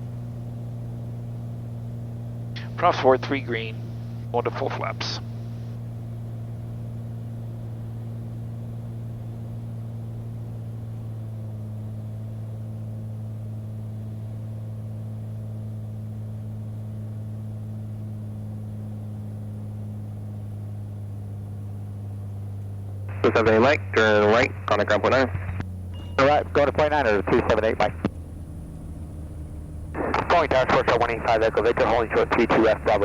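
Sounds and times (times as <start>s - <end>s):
airplane engine and propeller drone: 0.0s - 33.0s.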